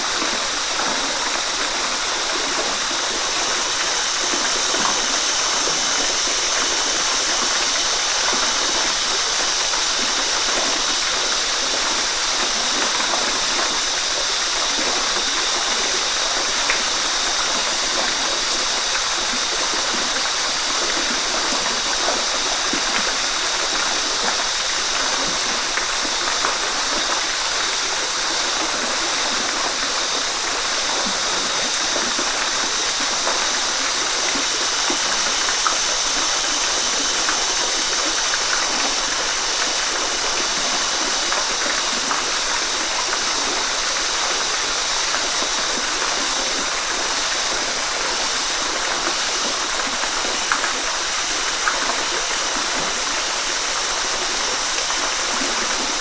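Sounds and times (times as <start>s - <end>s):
waterfall rushing into a pool: 0.0s - 56.0s.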